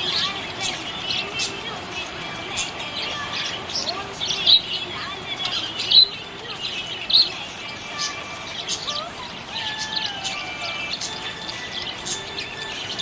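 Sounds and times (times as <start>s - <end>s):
budgie chirping and warbling: 0.0s - 13.0s.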